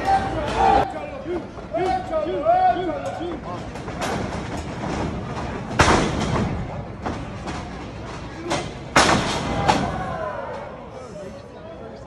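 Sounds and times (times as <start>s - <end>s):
crowd noise: 0.0s - 12.0s.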